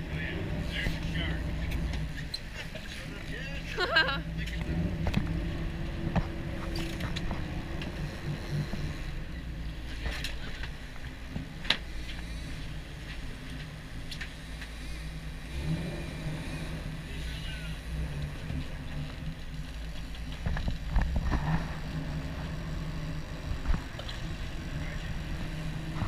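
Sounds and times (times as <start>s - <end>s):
boat engine running: 0.0s - 26.0s
wind and water noise: 0.0s - 26.0s.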